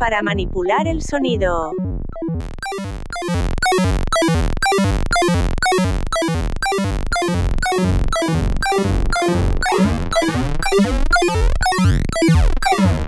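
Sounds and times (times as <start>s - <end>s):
square-wave synth lead: 1.3s - 13.0s.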